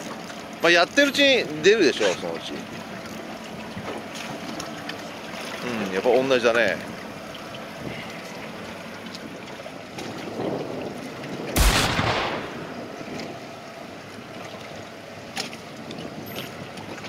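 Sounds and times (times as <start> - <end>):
water and wind noise: 0.0 - 17.0
wave slapping hull: 0.0 - 17.0.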